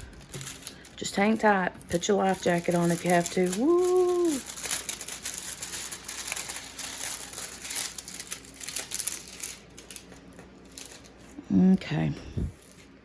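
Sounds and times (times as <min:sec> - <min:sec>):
plastic canvas crinkling: 0:00.0 - 0:11.4.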